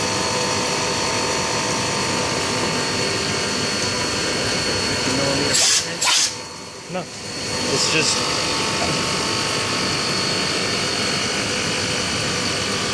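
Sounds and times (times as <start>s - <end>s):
mill cutting metal: 0.0s - 6.4s, 7.1s - 12.9s.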